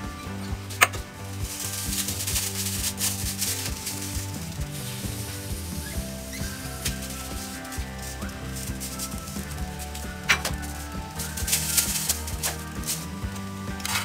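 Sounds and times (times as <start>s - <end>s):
plastic bag rustling: 0.7s - 14.0s.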